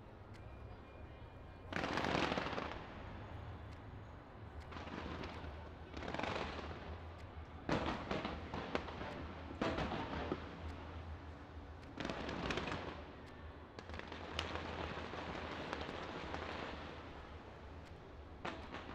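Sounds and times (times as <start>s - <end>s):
fireworks crackling: 1.8s - 3.6s, 4.6s - 13.2s, 13.8s - 18.9s.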